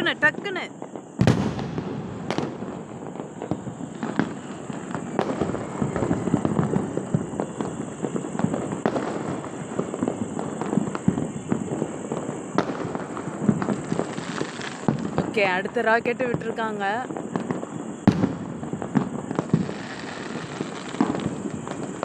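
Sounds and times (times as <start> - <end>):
firecrackers crackling: 0.0 - 22.0
firework bangs: 0.0 - 22.0.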